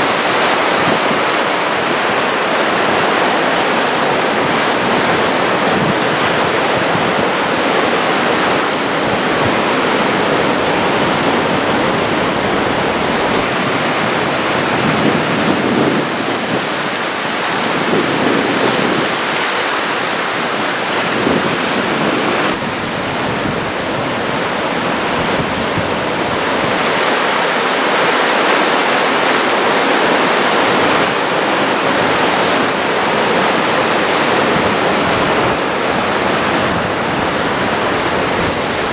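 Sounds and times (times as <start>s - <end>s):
surf waves breaking: 0.0s - 38.9s.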